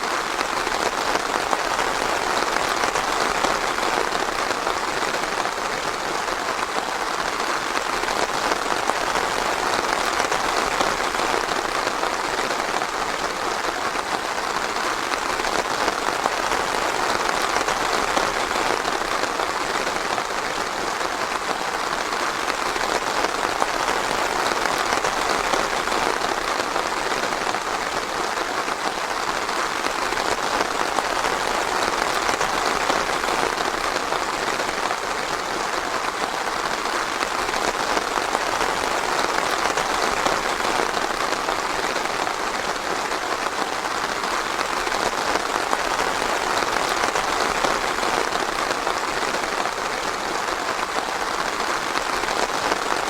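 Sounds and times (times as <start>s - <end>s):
rain falling on foliage: 0.0s - 53.0s.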